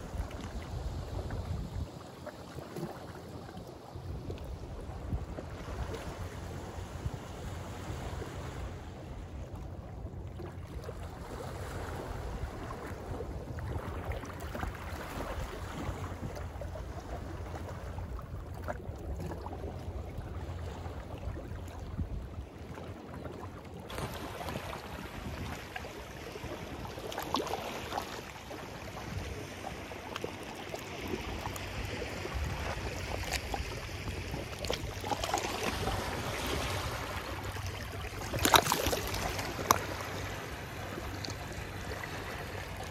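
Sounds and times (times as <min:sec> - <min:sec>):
wind on microphone: 0:00.0 - 0:10.2, 0:11.0 - 0:23.3, 0:23.9 - 0:27.1, 0:31.0 - 0:42.9
sea waves washing ashore: 0:00.0 - 0:42.9.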